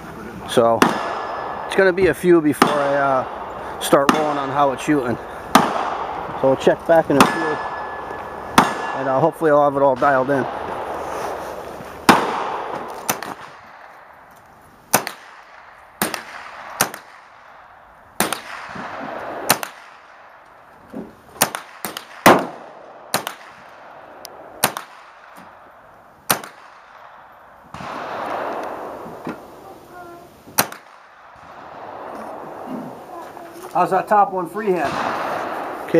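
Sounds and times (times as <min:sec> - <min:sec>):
rifle shots: 0:00.5 - 0:14.3, 0:14.9 - 0:20.6, 0:21.4 - 0:29.6, 0:30.5 - 0:35.9.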